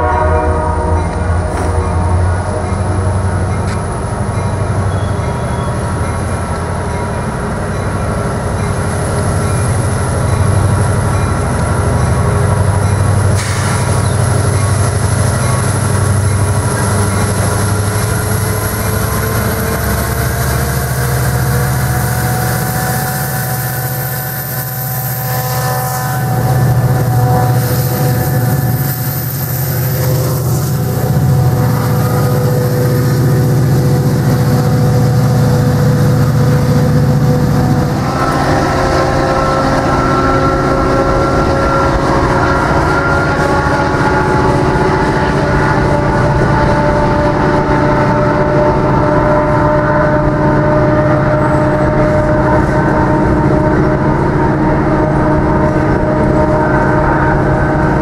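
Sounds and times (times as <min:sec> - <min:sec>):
locomotive engines rumbling: 0:00.0 - 0:58.0.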